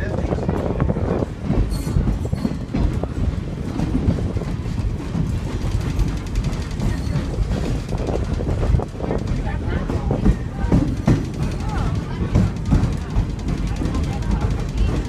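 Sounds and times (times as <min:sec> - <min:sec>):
train wheels clattering on rails: 0:00.0 - 0:15.0.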